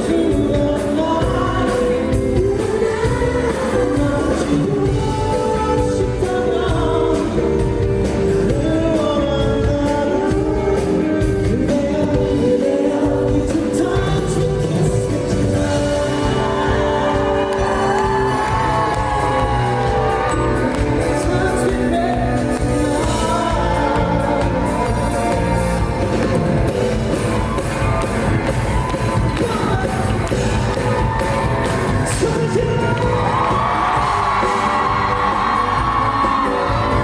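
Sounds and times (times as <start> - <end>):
lead vocal singing: 0.0 - 26.0, 28.9 - 37.0
pop-rock band playing live: 0.0 - 37.0.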